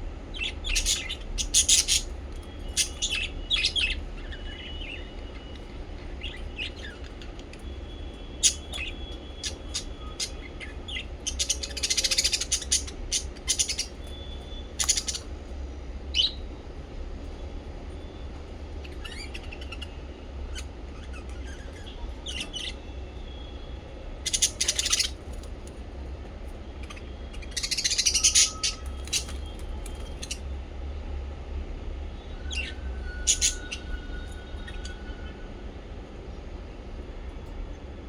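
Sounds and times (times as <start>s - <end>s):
steady low hum: 0.0s - 38.0s
parrots chirping and chattering: 0.3s - 15.5s, 16.1s - 16.6s, 17.3s - 30.5s, 32.5s - 35.3s.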